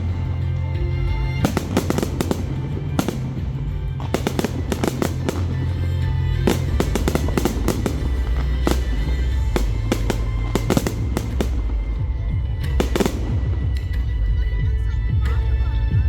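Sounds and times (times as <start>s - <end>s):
fireworks bursting and crackling: 0.0s - 15.6s
music with low bass line: 0.0s - 16.0s.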